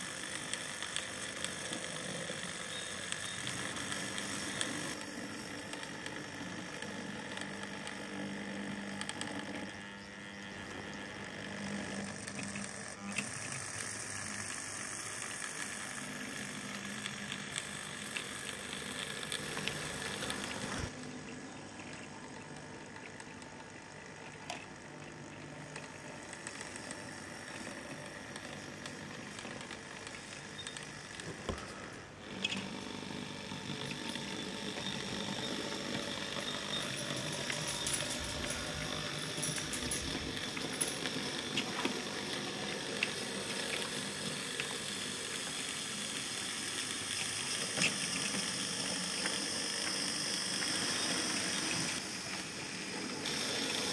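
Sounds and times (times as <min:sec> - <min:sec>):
model train whirring and rumbling: 0:00.0 - 0:53.9.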